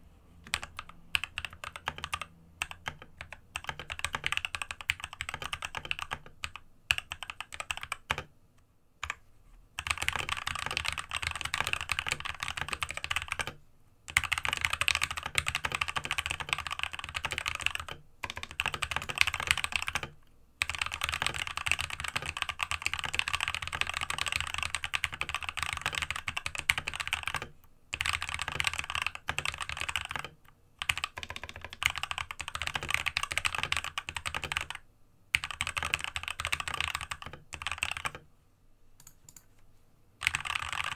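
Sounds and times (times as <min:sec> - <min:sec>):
fast typing on mechanical keyboard: 0:00.4 - 0:08.3, 0:09.8 - 0:38.2, 0:40.2 - 0:40.9.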